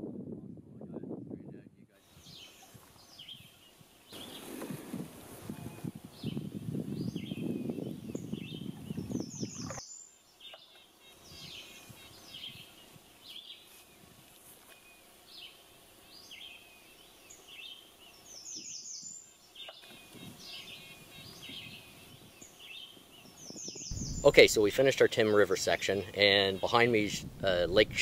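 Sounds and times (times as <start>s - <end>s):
songbirds chirping: 1.8s - 28.0s.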